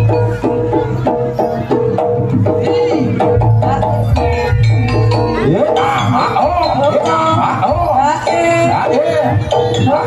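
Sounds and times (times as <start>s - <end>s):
hand-drum strokes: 0.0s - 10.0s
repeating pitched notes: 0.0s - 10.0s.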